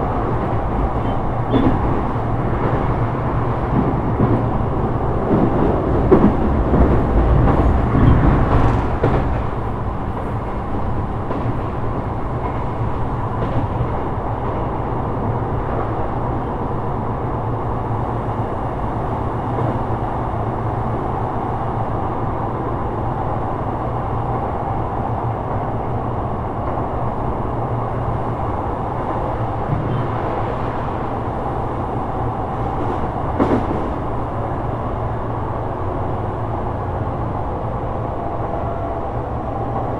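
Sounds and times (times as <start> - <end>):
train clattering: 0.0 - 39.9
train wheels rumbling on rail: 0.0 - 39.9.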